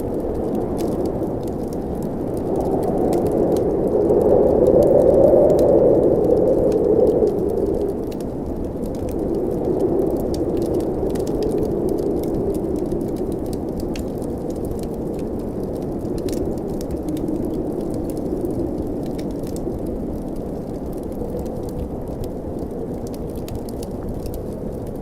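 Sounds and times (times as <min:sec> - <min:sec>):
blizzard wind blowing: 0:00.0 - 0:25.0
wood fire crackling: 0:00.0 - 0:25.0.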